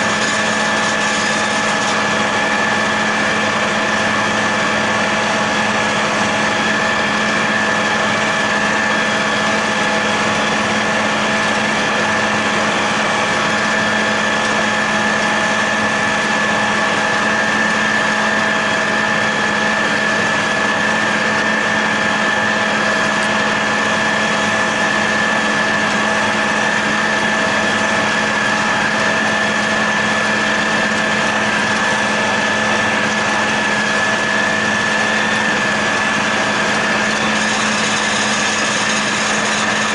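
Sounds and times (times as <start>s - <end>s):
mower high whine: 0.0s - 39.9s
tractor diesel engine running: 0.0s - 39.9s.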